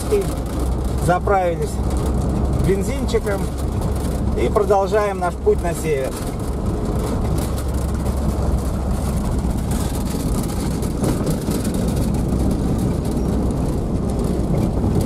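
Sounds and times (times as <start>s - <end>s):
fine rattling and knocking: 0.0s - 4.6s, 5.3s - 15.0s
low engine drone: 0.0s - 15.0s.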